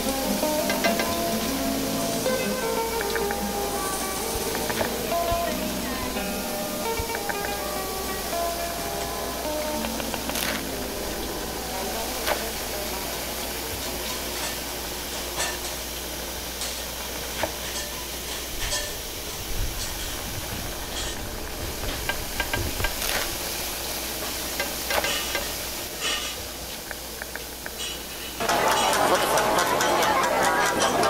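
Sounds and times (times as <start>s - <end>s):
meat sizzling on a grill pan: 0.0s - 26.2s.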